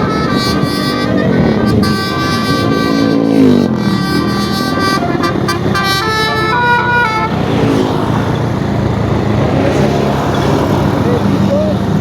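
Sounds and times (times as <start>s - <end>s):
bus horn melody: 0.0s - 11.5s
bus engine running: 0.0s - 12.0s
street noise: 0.0s - 12.0s.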